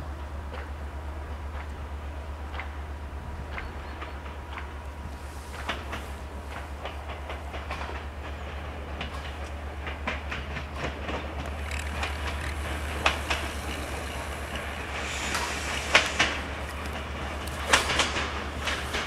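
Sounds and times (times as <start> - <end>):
train engine drone: 0.0 - 19.0
wheels clacking over rail joints: 0.4 - 19.0.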